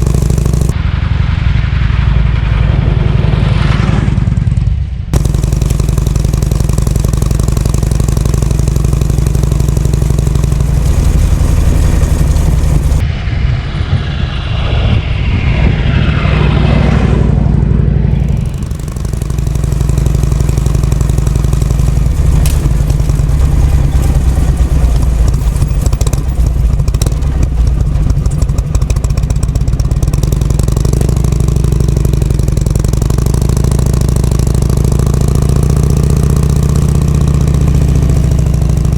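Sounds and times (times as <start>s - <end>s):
motorcycle engine running: 0.0s - 0.9s, 2.1s - 13.1s, 17.4s - 38.9s.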